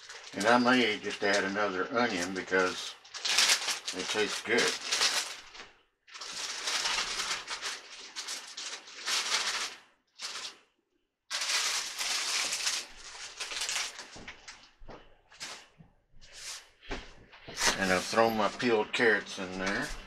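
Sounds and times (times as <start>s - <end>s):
vegetables crinkling and rustling: 0.0s - 10.7s, 11.3s - 20.0s.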